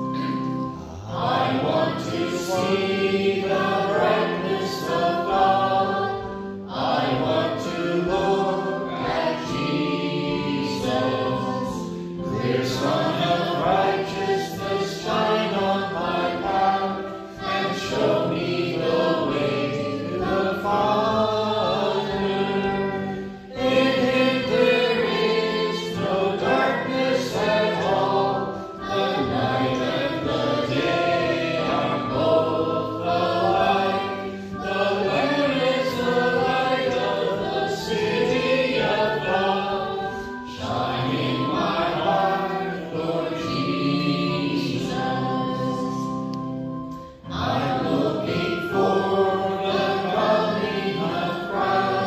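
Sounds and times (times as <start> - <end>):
group singing a hymn: 0.0 - 52.0
piano accompaniment: 0.0 - 52.0.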